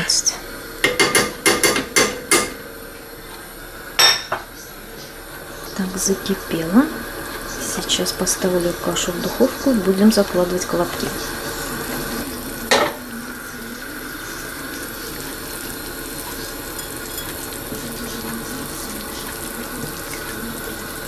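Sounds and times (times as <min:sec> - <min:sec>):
soup bubbling at a boil: 0:00.5 - 0:21.0.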